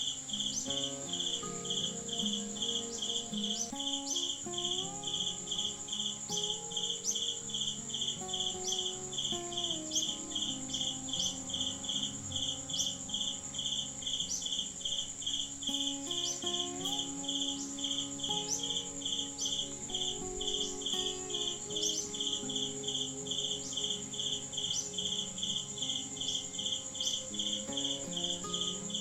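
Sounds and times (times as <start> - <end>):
continuous high insect buzz: 0.0 - 29.0
insect pulsing trill: 0.0 - 29.0.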